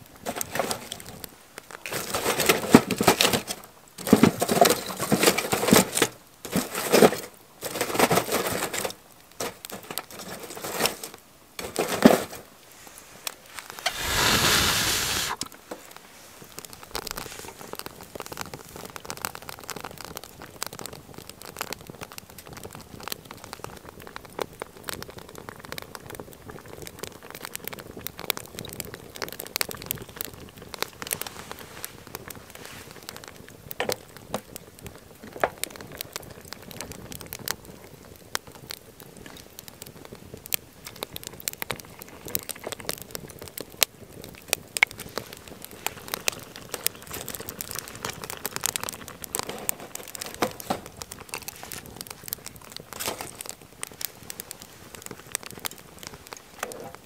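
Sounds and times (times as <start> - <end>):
charcoal grill crackling and sizzling: 0.0 - 57.0
crinkly handling noises: 0.0 - 57.0.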